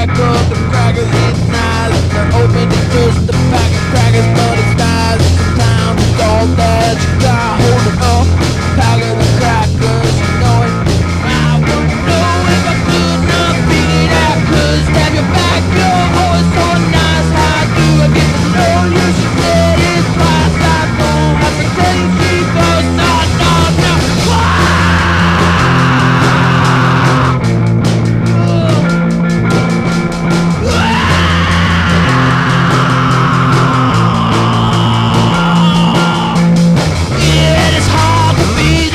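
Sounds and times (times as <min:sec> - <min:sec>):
band music: 0:00.0 - 0:38.9
steady drum beat: 0:00.0 - 0:38.9.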